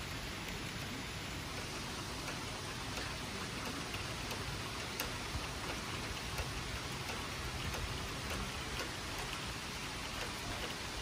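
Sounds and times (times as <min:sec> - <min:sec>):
raindrops ticking close by: 0:00.0 - 0:11.0
steady rain hiss: 0:00.0 - 0:11.0.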